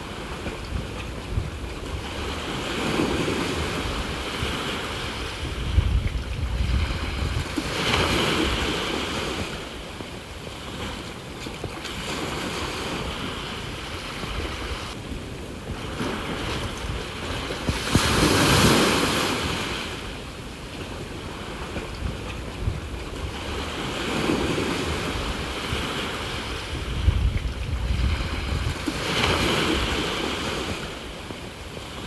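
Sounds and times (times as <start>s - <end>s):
sea waves washing onto shore: 0.0s - 32.0s
wind rumbling on microphone: 0.0s - 32.0s.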